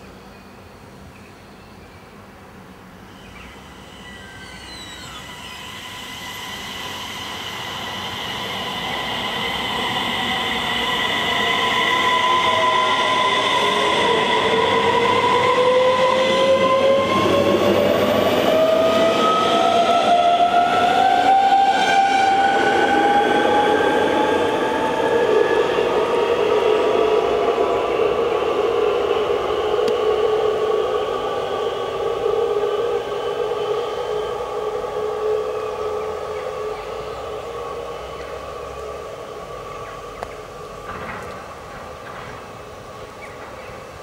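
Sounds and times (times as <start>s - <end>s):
electric train passing: 0.0s - 44.0s
train whine rising in pitch: 3.0s - 41.6s.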